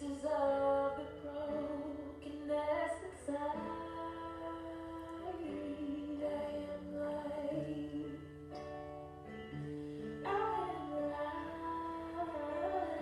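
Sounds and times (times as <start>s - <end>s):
woman singing slow song: 0.0s - 8.9s, 9.5s - 13.0s.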